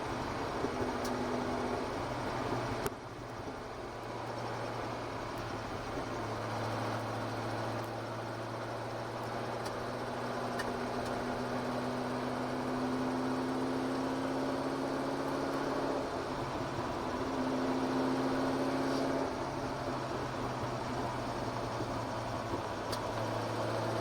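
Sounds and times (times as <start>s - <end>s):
car engine at low revs: 0.0s - 24.0s.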